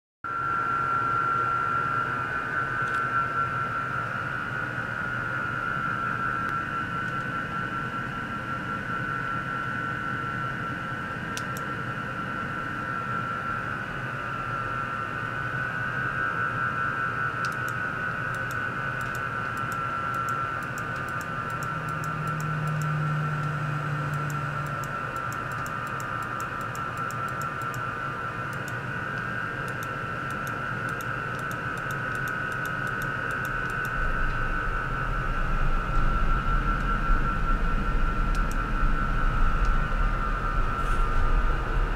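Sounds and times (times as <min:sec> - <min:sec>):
high-pitched whine: 0:00.3 - 0:41.9.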